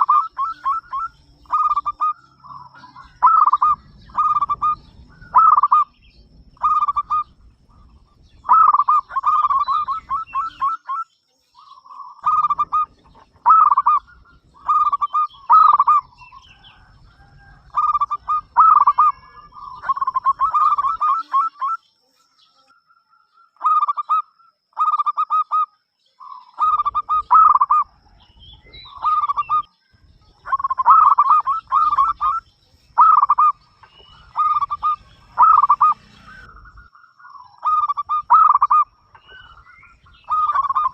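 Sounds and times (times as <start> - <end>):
dove cooing: 0.0 - 11.0, 11.6 - 21.8, 23.6 - 40.9.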